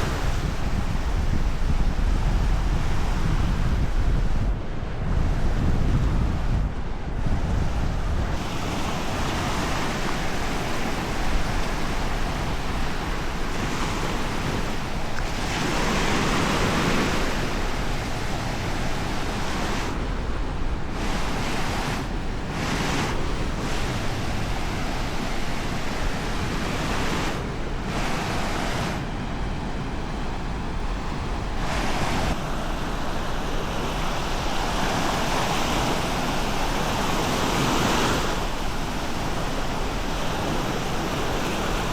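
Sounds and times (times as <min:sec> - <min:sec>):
surf washing onto beach: 0:00.0 - 0:04.4, 0:05.2 - 0:41.9
low wind rumble: 0:00.0 - 0:41.9.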